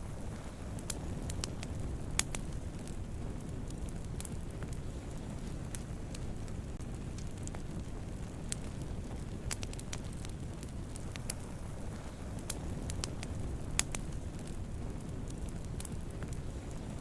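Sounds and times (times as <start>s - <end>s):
fire crackling and popping: 0.0s - 17.0s
fire flames rumbling: 0.0s - 17.0s.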